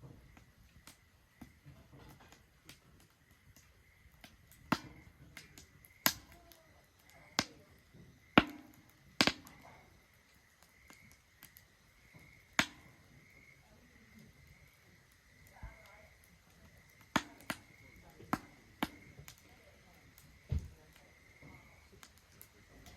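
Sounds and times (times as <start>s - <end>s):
burning wood popping and snapping: 0.0s - 22.9s
wood fire crackling: 0.0s - 22.9s.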